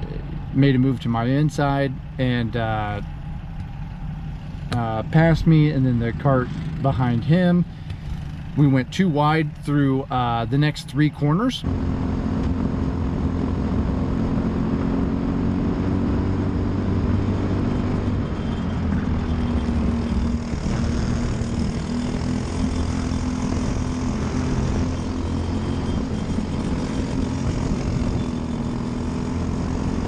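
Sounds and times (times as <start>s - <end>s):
kart engine droning: 0.0s - 10.8s, 11.6s - 30.0s.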